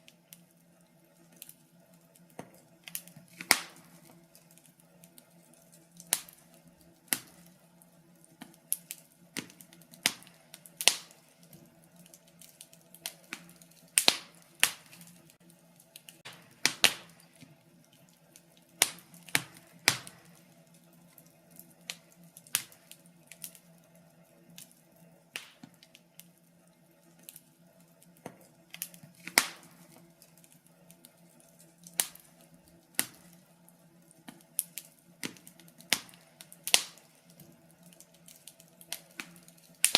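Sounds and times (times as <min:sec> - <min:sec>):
faint steady hum: 0:00.0 - 0:39.9
fire crackling and popping: 0:00.0 - 0:39.9.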